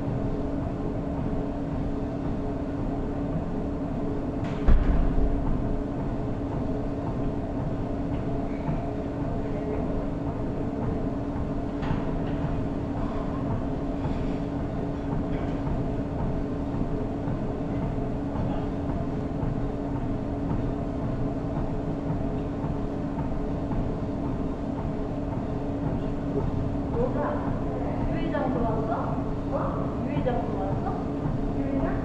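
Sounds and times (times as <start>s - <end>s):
treadmill belt rumble: 0.0s - 32.0s
treadmill motor hum: 0.0s - 32.0s.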